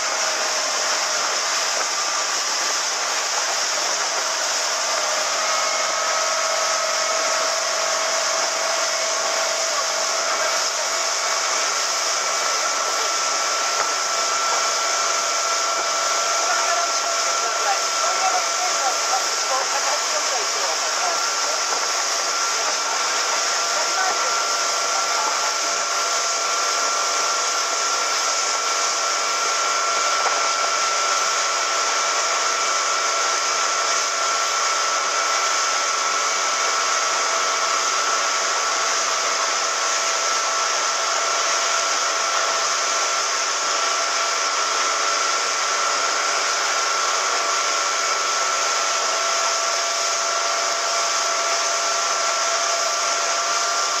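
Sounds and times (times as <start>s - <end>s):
churning wake water: 0.0s - 54.0s
motorboat engine whine: 0.0s - 54.0s.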